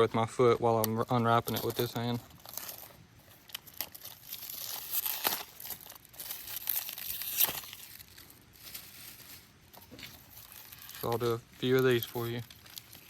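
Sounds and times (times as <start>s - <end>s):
wrapper crinkling and tearing: 0.9s - 13.0s.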